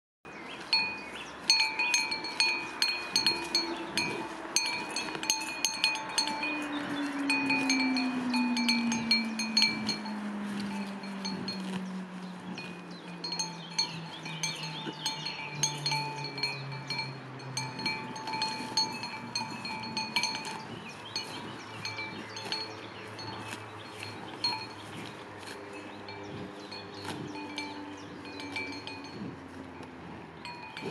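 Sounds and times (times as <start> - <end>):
cattle bell clanking: 0.7 - 30.9.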